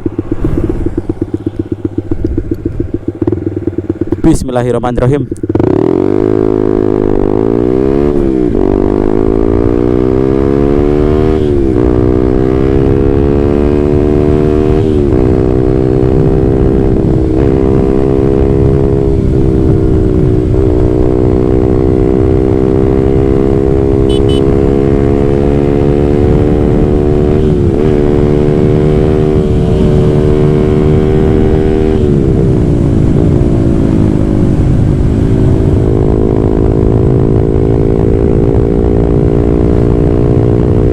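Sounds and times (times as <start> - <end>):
motorcycle accelerating through gears: 0.0 - 40.9.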